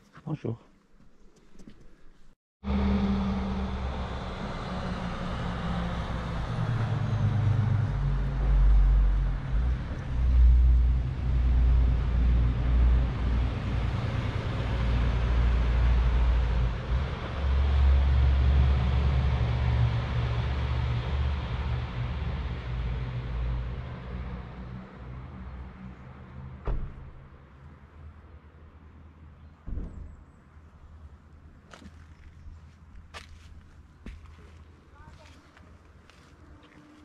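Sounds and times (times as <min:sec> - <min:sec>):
road traffic rumble and hiss: 0:02.6 - 0:37.0.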